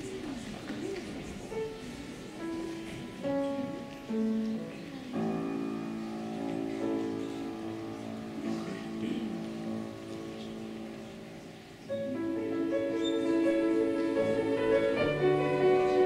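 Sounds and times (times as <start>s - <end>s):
slow piano playing: 1.4s - 16.0s.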